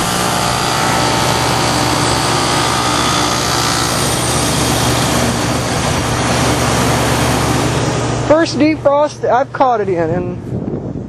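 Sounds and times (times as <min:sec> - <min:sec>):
compressor hum: 0:00.0 - 0:11.0.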